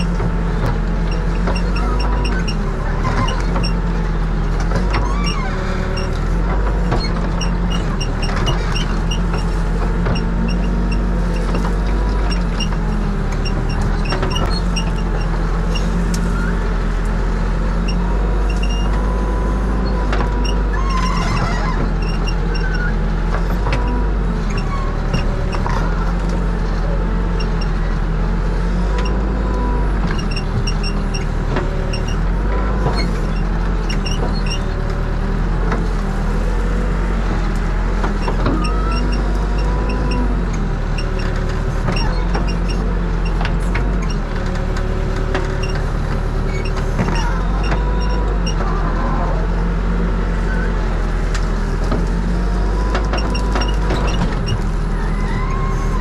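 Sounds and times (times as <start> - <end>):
diesel engine under load: 0.0 - 56.0
hydraulic whine: 0.0 - 56.0.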